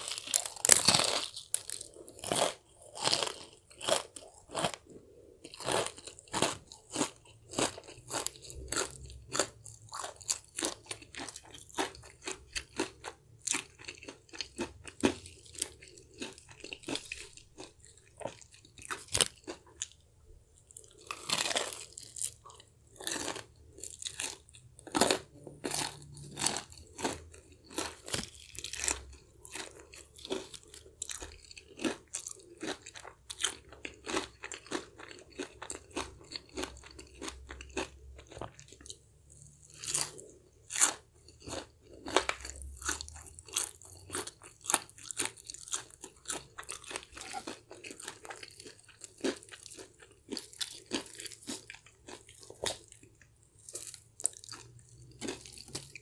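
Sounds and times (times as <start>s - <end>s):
crunching and chewing fried chicken: 0.0s - 56.0s.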